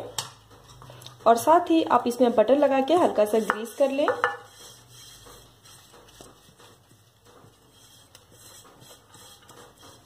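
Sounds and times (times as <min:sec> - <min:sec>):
pastry brush pattering in metal tin: 0:01.2 - 0:10.0.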